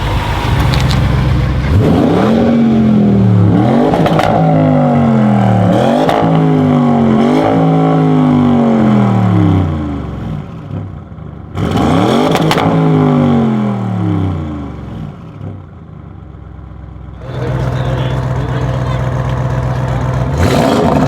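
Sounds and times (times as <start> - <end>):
car engine revving with cracks: 0.0 - 16.1, 17.2 - 21.0.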